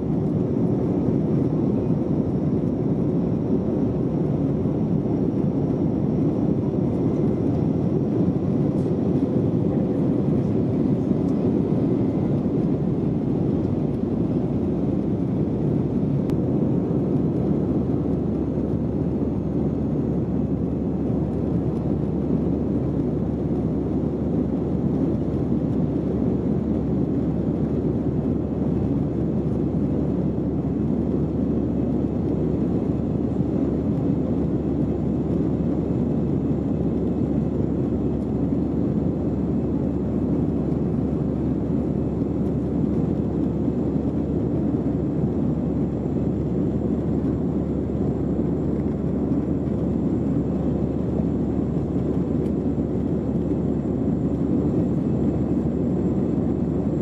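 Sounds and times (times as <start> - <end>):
jet engine hum in cabin: 0.0 - 57.0.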